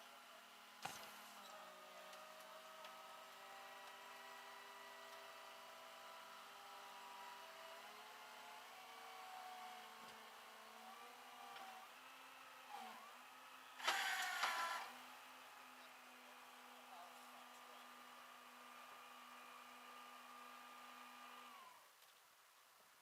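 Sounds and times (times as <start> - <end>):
faint engine whine: 0.0 - 22.0.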